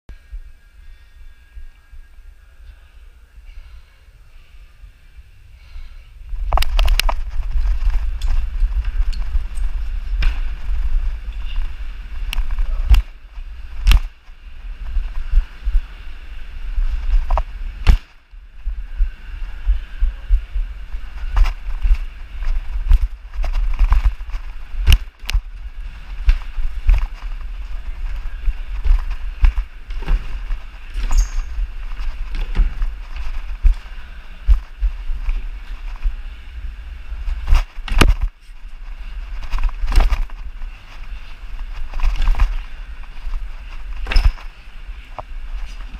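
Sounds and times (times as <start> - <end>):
low rumble of camera movement: 0.1 - 45.9.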